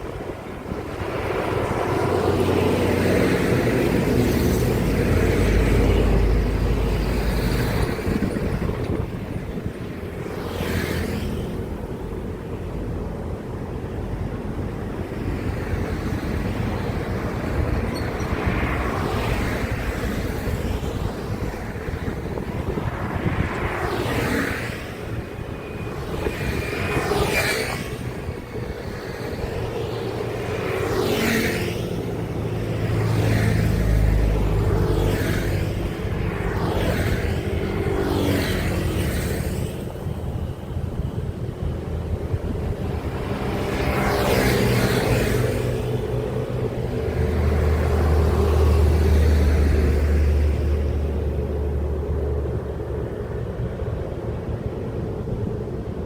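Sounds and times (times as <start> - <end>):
low traffic rumble: 0.0 - 56.0
trucks passing: 0.0 - 56.0.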